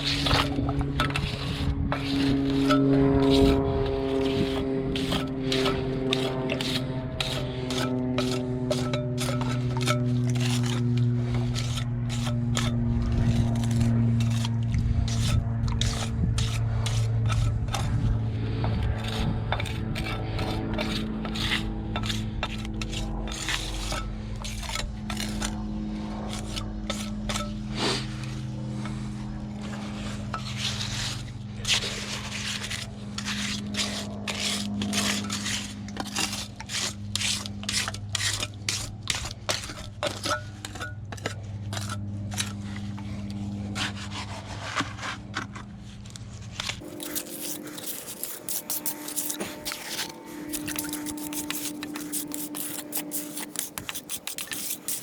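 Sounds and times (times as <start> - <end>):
steady low hum: 0.0 - 55.0
trowel scraping wet cement: 0.0 - 55.0.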